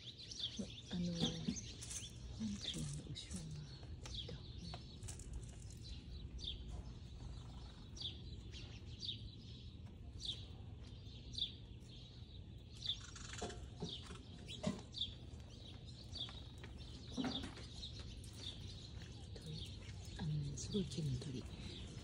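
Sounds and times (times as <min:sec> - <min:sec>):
low outdoor hum: 0:00.0 - 0:22.0.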